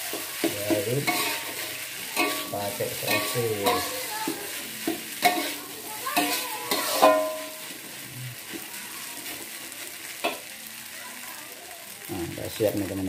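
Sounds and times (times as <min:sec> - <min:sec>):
metal spatula scraping wok: 0:00.0 - 0:10.5
food sizzling: 0:00.0 - 0:13.0.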